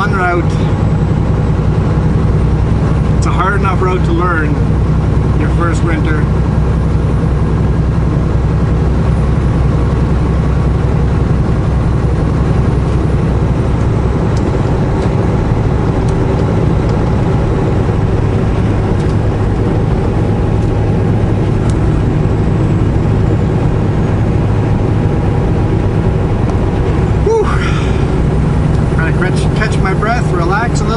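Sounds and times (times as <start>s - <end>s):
road noise: 0.0s - 30.9s
truck diesel engine running: 0.0s - 30.9s.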